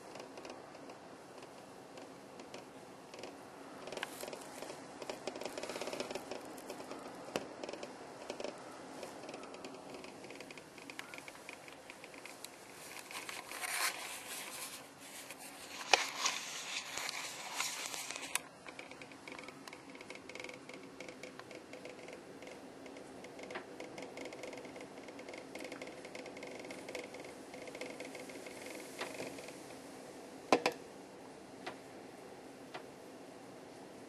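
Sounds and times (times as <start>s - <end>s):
faint ticks and scratches: 0.0s - 34.0s.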